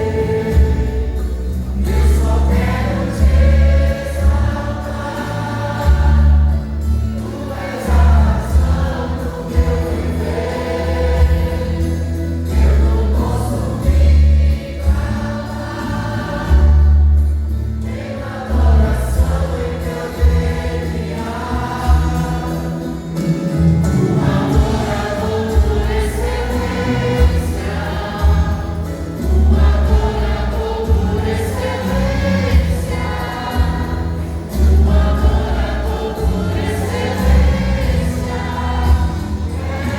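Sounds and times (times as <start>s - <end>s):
steady bass accompaniment: 0.0s - 39.9s
vocal group singing gospel: 0.0s - 39.9s.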